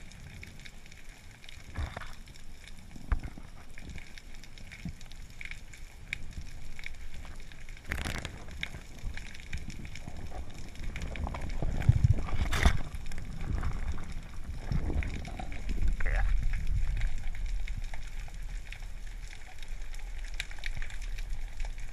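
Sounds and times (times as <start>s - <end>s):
rushing sloshing water: 0.0s - 21.9s
underwater crackling clicks: 0.0s - 21.9s.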